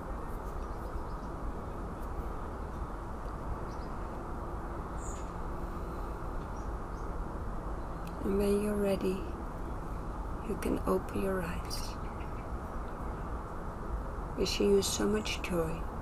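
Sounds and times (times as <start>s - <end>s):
low rumbling hiss: 0.0s - 16.0s.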